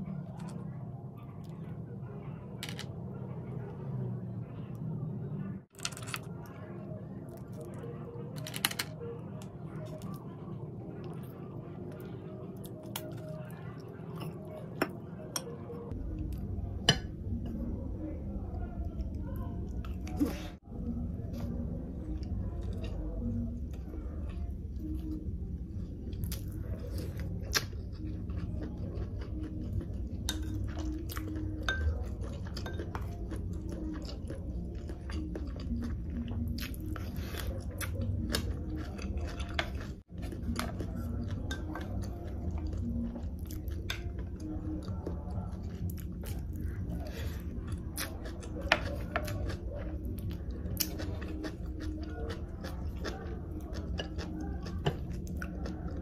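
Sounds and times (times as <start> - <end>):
low background hum: 0.0 - 56.0
close-mic chewing: 5.6 - 56.0.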